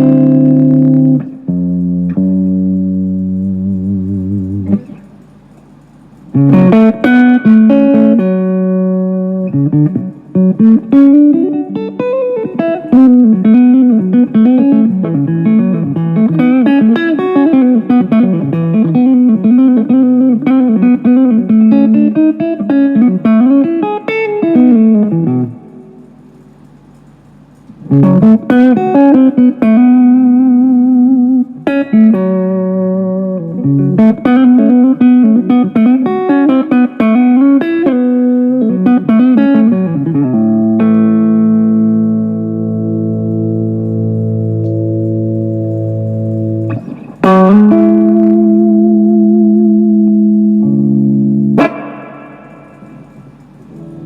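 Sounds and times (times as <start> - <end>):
guitar chords and lead line: 0.0 - 5.3, 6.3 - 26.1, 27.8 - 54.0.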